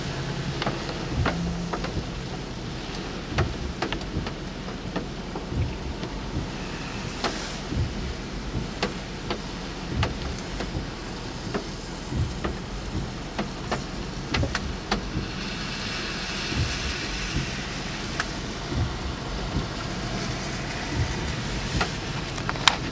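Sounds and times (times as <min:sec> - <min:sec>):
car cabin rumble: 0:00.0 - 0:22.9
rain ticking on car: 0:00.0 - 0:22.9.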